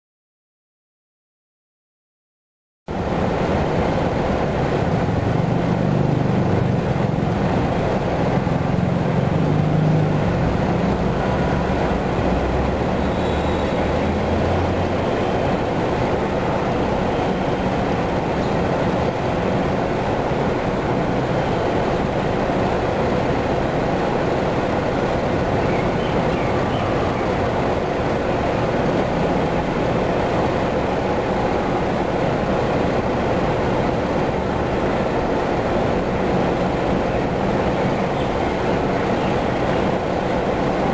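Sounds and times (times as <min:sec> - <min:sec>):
traffic engine rumble: 0:02.9 - 0:40.9.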